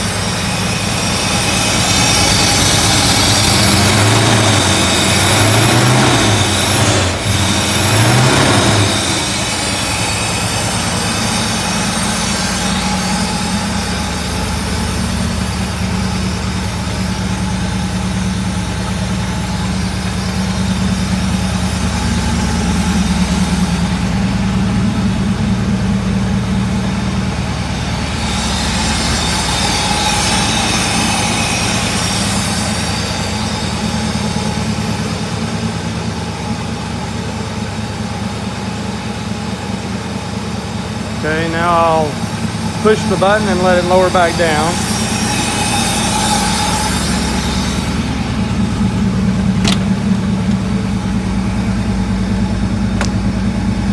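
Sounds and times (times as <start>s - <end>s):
loud car engine idling: 0.0s - 53.9s.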